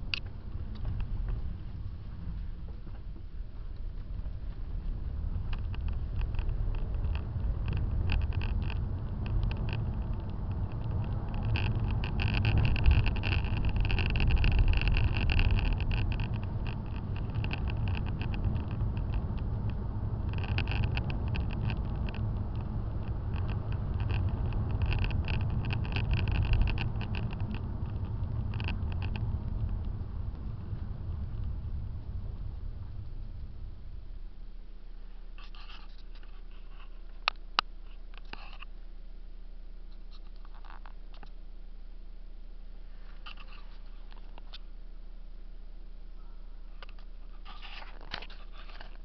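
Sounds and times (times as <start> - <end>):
car engine and tyre rumble: 0.0 - 49.0.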